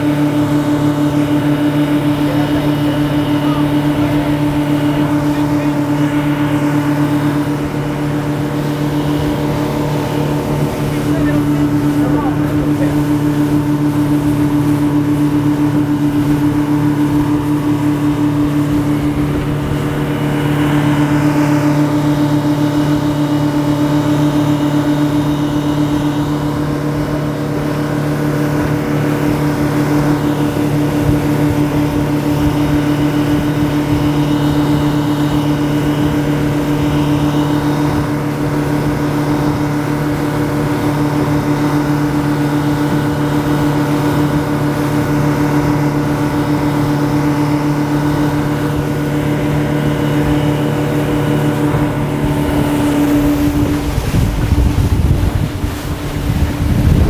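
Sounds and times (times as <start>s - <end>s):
outboard motors running: 0.0s - 57.0s
water rushing past hull: 0.0s - 57.0s.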